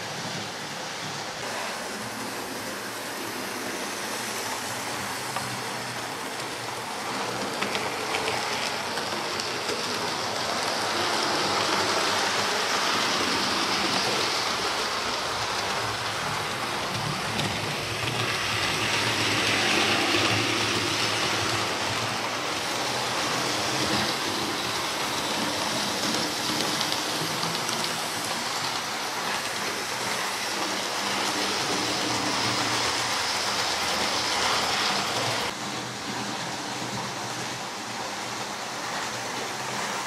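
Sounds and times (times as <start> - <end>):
model trains whirring on track: 0.0 - 40.0.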